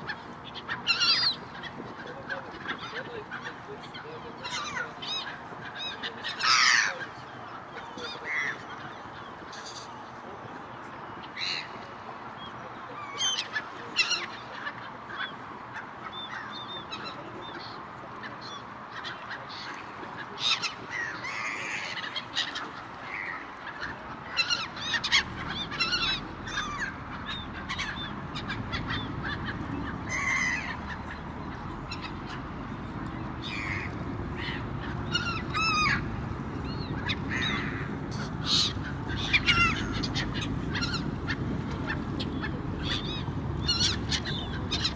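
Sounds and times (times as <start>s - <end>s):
gulls squawking: 0.0s - 44.9s.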